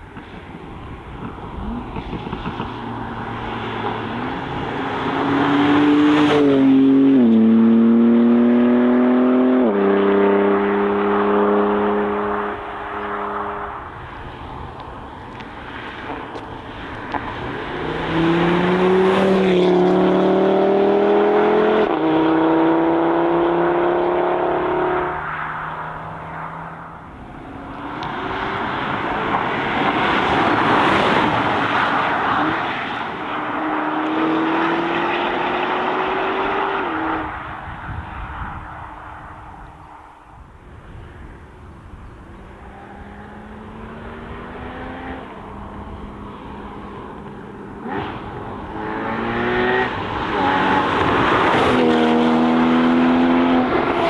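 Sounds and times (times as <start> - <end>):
sports car engines accelerating: 1.1 - 37.5, 42.2 - 54.0.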